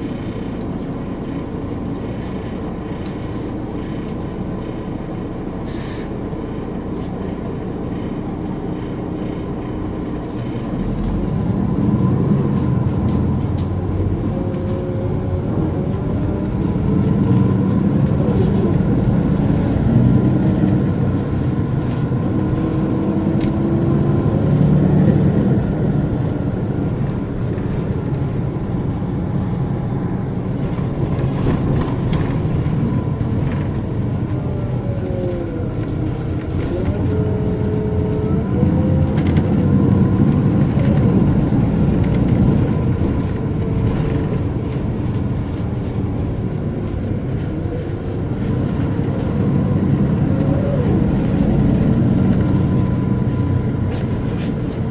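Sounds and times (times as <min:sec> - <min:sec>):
bus diesel engine rumble: 0:00.0 - 0:54.9.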